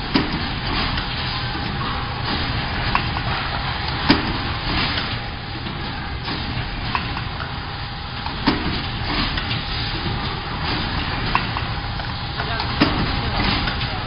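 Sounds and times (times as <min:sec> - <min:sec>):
faint machine whine: 0:00.0 - 0:14.0
machine mechanical drone: 0:00.0 - 0:14.0.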